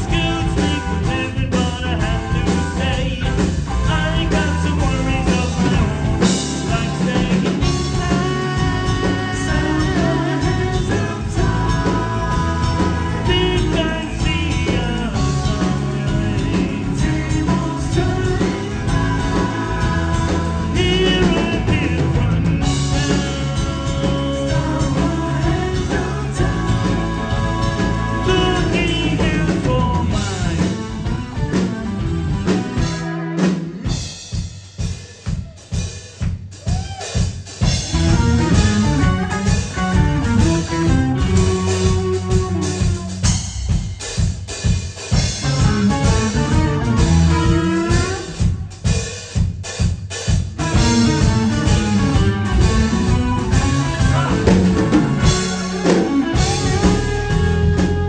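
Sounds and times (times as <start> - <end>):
electric guitar: 0.0 - 34.1, 37.6 - 43.4, 45.2 - 48.7, 50.5 - 58.0
bass guitar: 0.0 - 58.0
drum kit: 0.0 - 58.0.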